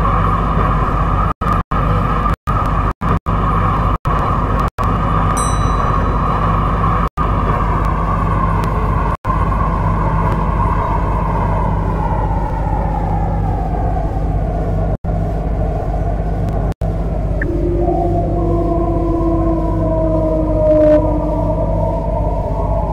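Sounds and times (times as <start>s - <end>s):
constant low rumble: 0.0s - 22.9s.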